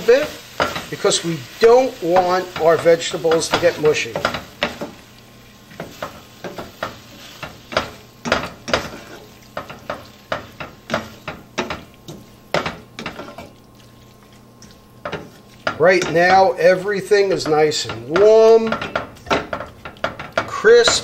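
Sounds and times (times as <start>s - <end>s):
faint sizzle: 0.0s - 21.0s
spatula scraping a pan: 0.0s - 21.0s.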